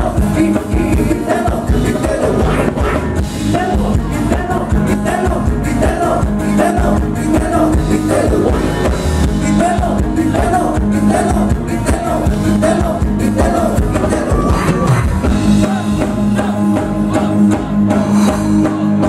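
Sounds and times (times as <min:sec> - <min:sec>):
drum kit beat: 0:00.0 - 0:19.0
electric guitar: 0:00.0 - 0:19.0
man singing: 0:00.0 - 0:19.0.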